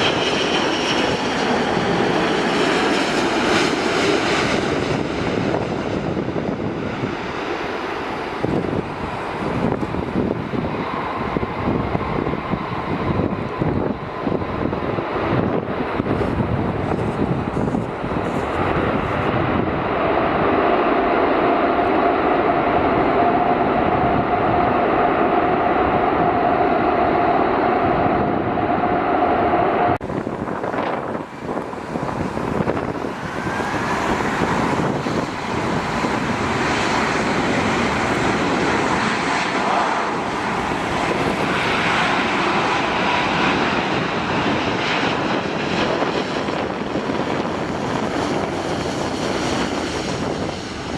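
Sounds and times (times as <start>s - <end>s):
jet engines roaring with whine: 0.0s - 50.9s.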